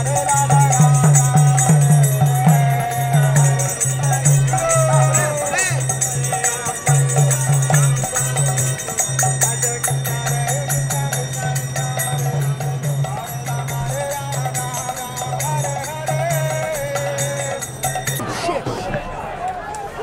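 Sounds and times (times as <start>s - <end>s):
barrel hand drum: 0.0s - 18.2s
high jingle: 0.0s - 18.6s
voices chanting: 0.0s - 20.0s.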